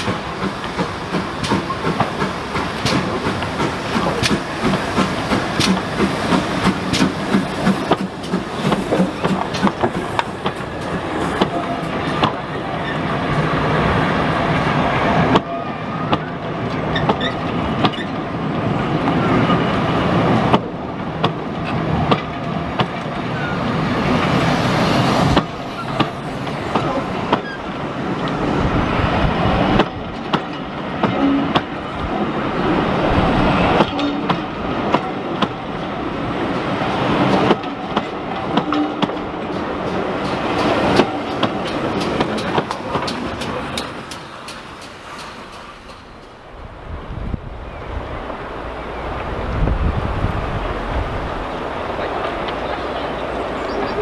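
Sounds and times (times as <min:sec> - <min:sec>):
train coaches rolling past: 0:00.0 - 0:54.0.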